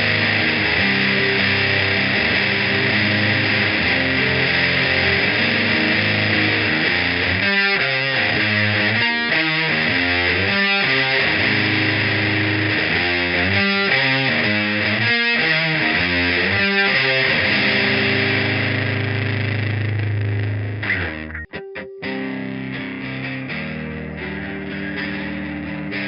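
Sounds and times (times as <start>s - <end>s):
distorted electric guitar riff: 0.0s - 26.0s.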